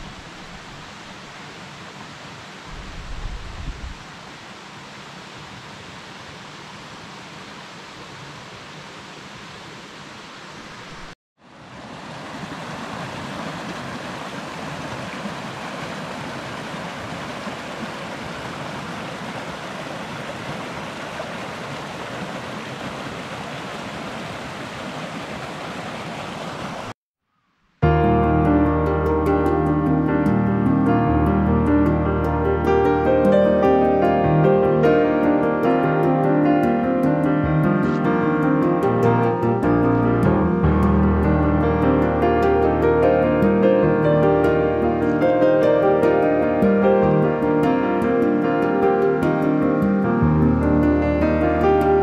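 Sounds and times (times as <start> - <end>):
stream rushing over cascade: 0.0 - 27.0, 28.1 - 52.0.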